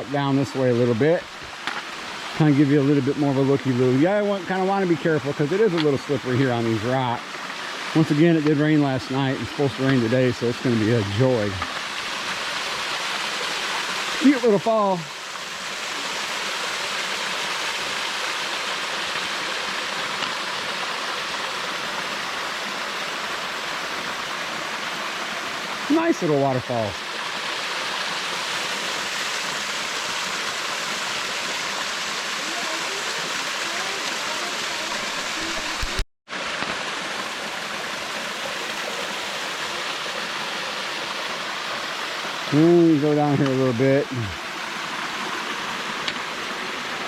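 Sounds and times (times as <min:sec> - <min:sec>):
waterfall splashing over rocks: 0:00.0 - 0:47.0.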